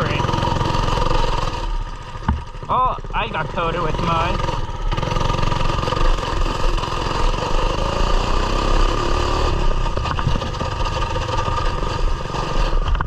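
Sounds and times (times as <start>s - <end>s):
mini bike engine running: 0.0s - 13.0s.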